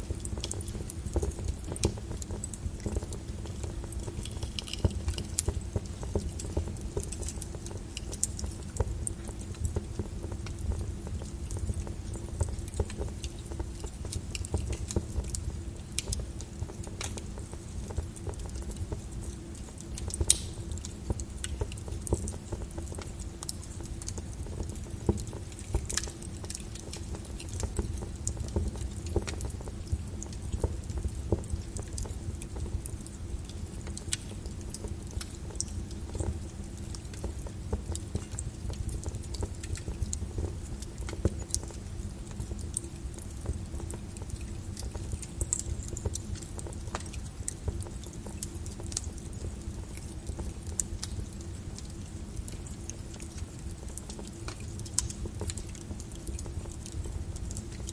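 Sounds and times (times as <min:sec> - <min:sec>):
rain pattering on a window: 0:00.0 - 0:57.9
wood fire crackling and popping: 0:00.0 - 0:57.9.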